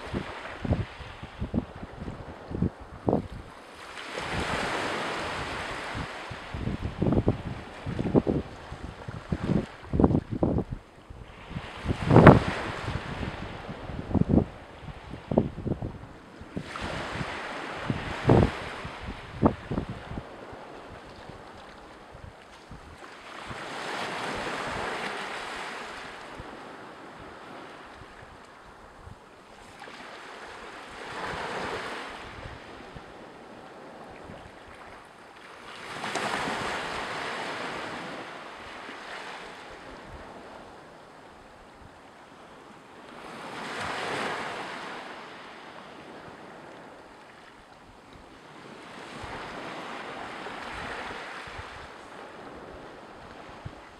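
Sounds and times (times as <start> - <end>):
waves washing onto shore: 0.0 - 53.9
wind rumbling on microphone: 0.0 - 53.9.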